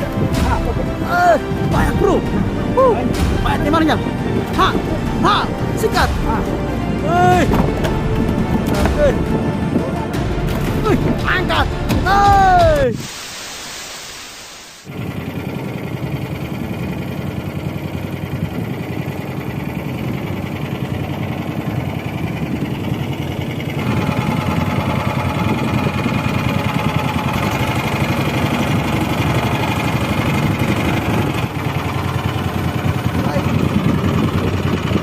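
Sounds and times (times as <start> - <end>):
boat engine running: 0.0 - 13.0, 14.9 - 35.0.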